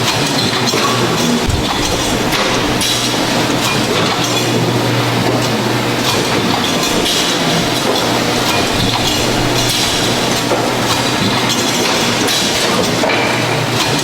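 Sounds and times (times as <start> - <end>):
machine humming: 0.8 - 12.4.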